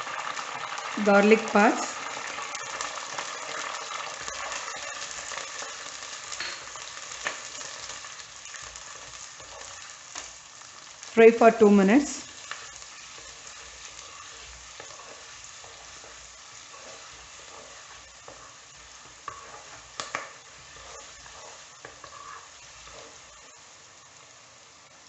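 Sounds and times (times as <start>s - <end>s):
garlic sizzling in hot oil: 0.0s - 25.0s.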